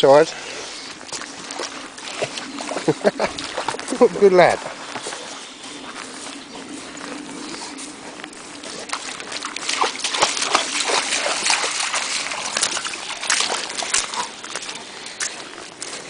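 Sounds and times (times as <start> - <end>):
footsteps wading through water: 0.2 - 16.0.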